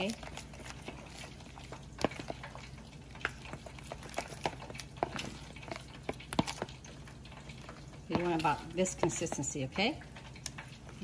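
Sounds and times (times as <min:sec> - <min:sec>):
spoon stirring thick batter: 0:00.0 - 0:11.0.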